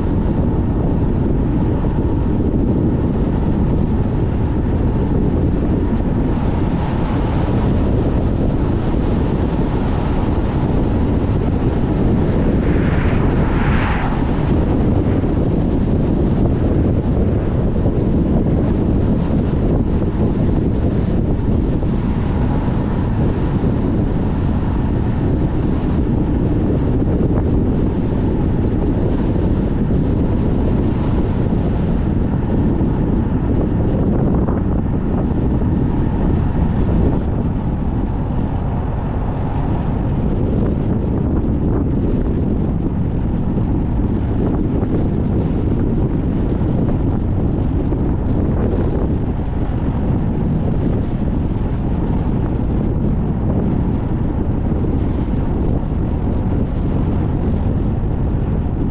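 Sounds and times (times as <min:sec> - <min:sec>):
car driving noise: 0:00.0 - 0:58.9
wind buffeting microphone: 0:00.0 - 0:58.9.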